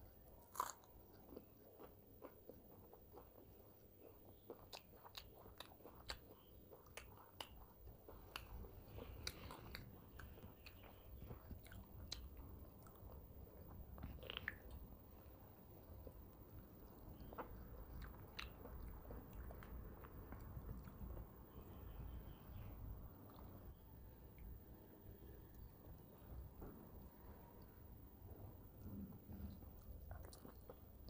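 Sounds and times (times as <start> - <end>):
chewing with small crunches: 0.1 - 27.6, 28.2 - 31.0.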